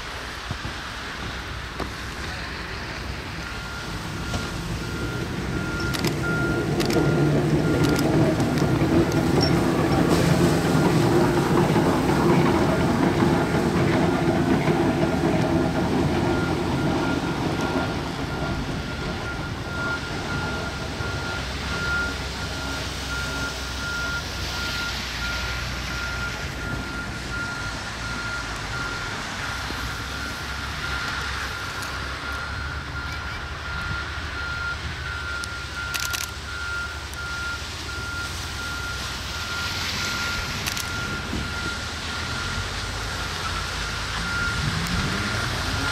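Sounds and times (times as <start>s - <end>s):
electric locomotive hum: 0.0s - 45.9s.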